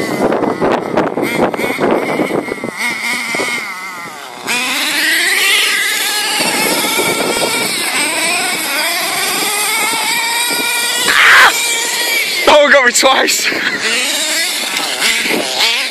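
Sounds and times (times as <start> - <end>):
nitro engine revving: 0.0 - 15.9.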